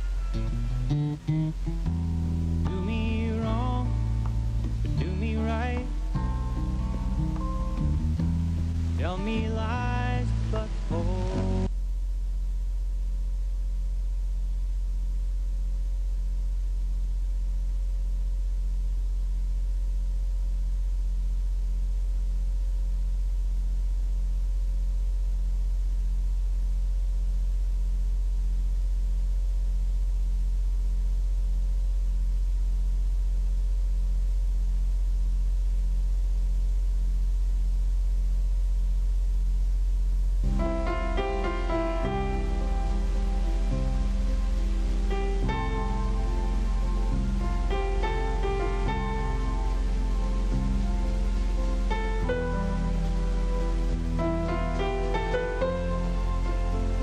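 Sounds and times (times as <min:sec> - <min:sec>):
faint steady tones: 0:00.0 - 0:57.0
pulsing electrical hum: 0:00.0 - 0:57.0.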